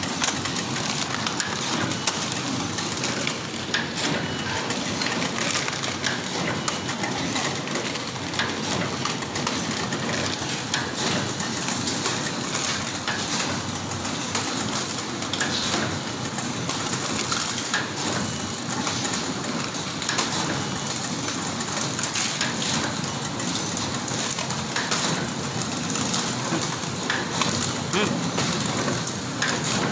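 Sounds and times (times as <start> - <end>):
packing machine clattering: 0.0 - 29.9.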